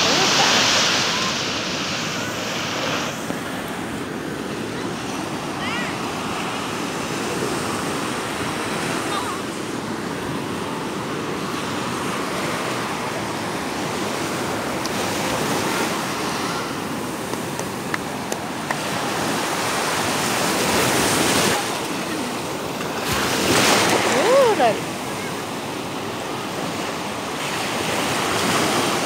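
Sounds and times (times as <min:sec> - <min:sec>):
ocean surf washing on beach: 0:00.0 - 0:29.0.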